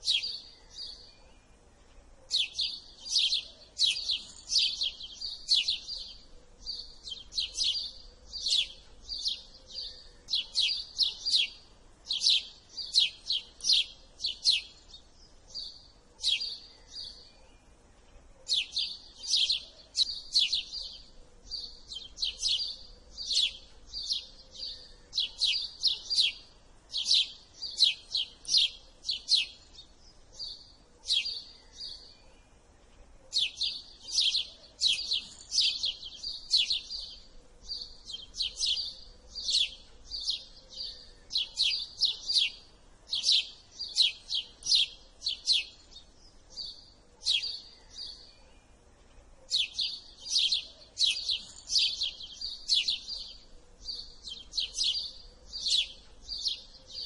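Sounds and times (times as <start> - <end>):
sparrow chirping: 0.0 - 57.0.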